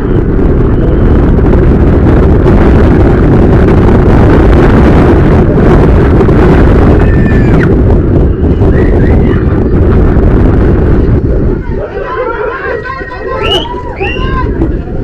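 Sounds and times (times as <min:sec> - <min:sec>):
bike tyres rumbling on pavement: 0:00.0 - 0:15.0
wind rushing over microphone: 0:00.0 - 0:15.0.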